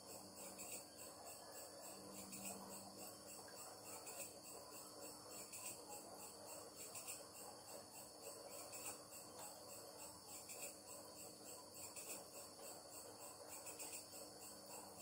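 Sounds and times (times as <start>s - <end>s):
faint insect chirping: 0.0s - 15.0s.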